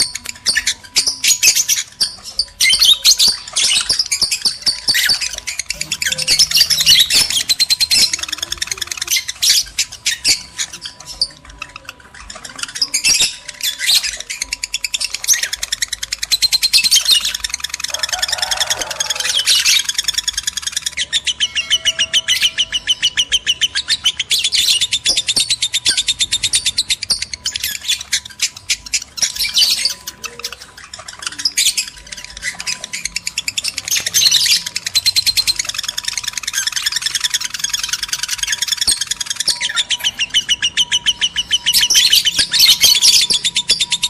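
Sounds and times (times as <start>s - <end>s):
lovebirds chattering: 0.0s - 44.0s.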